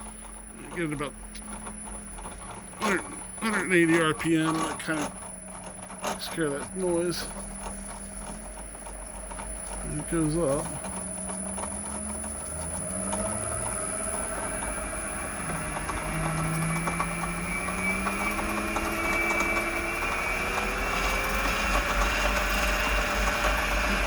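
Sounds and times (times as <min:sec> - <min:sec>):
drill press whine rising in pitch: 0:00.0 - 0:24.0.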